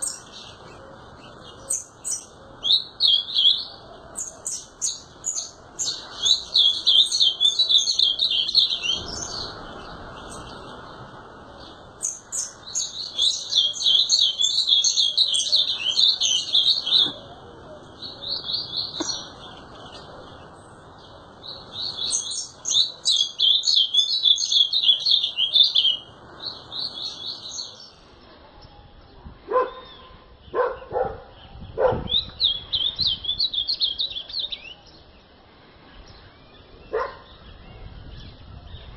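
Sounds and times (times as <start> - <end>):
bird singing rapid warbled notes: 0.0 - 38.9.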